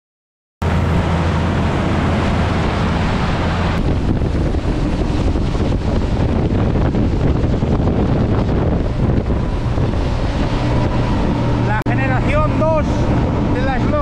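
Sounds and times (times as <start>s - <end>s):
boat engine humming: 0.6s - 14.0s
wind buffeting microphone: 0.6s - 14.0s.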